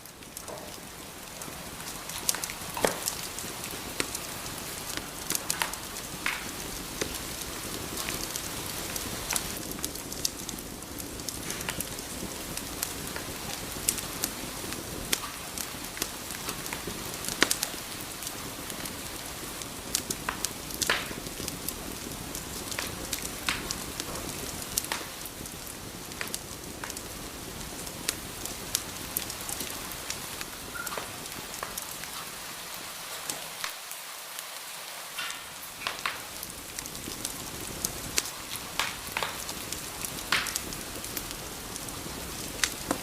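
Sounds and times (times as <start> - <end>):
steady fire hiss: 0.0 - 43.0
wood fire crackling and popping: 0.0 - 43.0.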